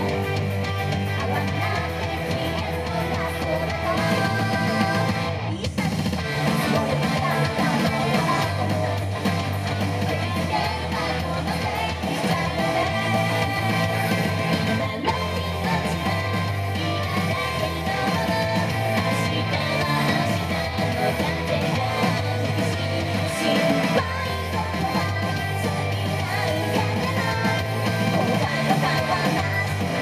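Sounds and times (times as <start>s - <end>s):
guitar-led band: 0.0s - 30.0s
pop song with girls singing: 0.0s - 30.0s.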